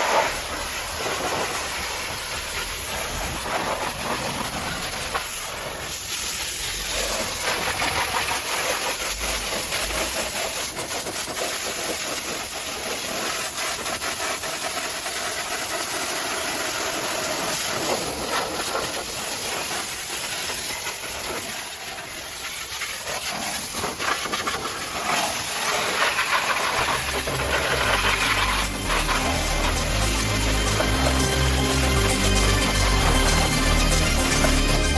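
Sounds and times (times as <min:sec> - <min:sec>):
pressure washer spray hissing: 0:00.0 - 0:34.9.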